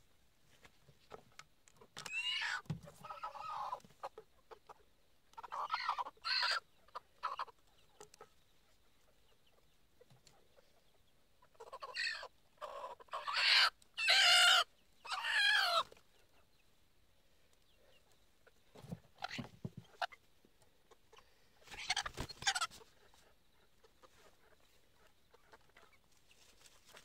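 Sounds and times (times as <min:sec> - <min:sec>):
chicken squawking and clucking: 0:01.8 - 0:16.4, 0:18.4 - 0:27.0.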